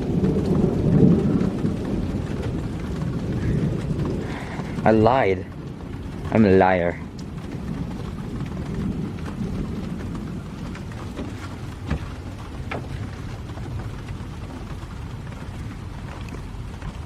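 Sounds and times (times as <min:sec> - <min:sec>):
low thunder rumble: 0:00.0 - 0:17.0
raindrops ticking: 0:00.0 - 0:17.0
steady rain: 0:00.0 - 0:17.0.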